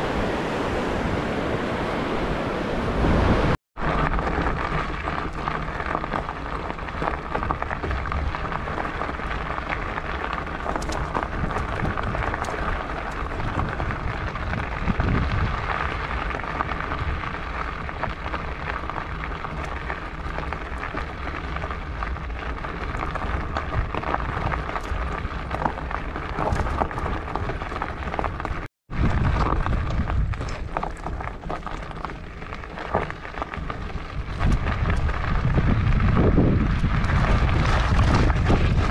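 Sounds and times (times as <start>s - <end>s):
wind rumble on microphone: 0.0s - 38.9s
bike tyres crunching on gravel: 3.8s - 38.9s.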